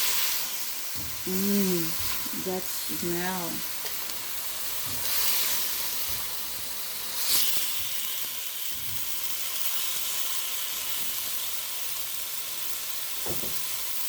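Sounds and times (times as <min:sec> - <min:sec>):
food sizzling in a skillet: 0:00.0 - 0:14.0.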